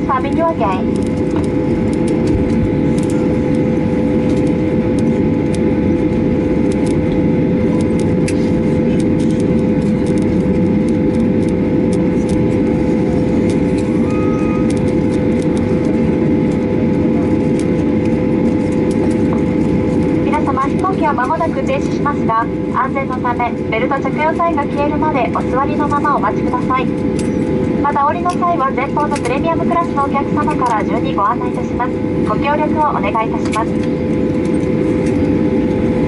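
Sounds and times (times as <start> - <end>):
jet engines idling: 0.0 - 36.0
steady cabin hum: 0.0 - 36.0.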